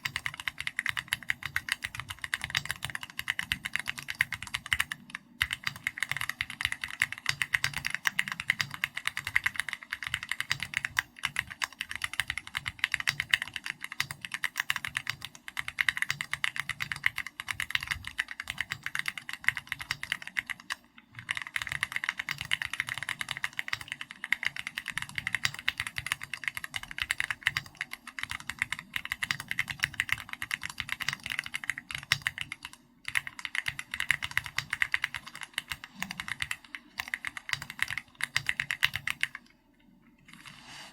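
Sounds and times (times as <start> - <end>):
mechanical keyboard typing: 0.0 - 39.5.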